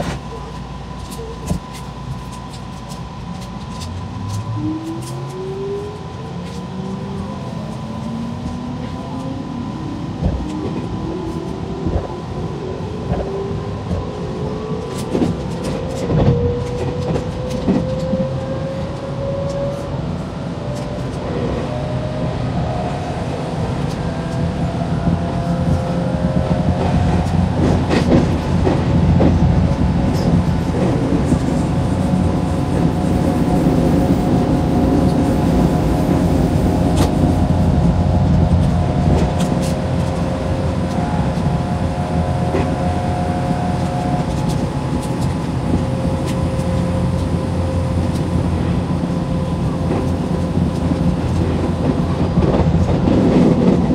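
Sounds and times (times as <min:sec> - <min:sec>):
electric train motor whine: 0:00.0 - 0:52.6
train running rumble: 0:00.0 - 0:53.9.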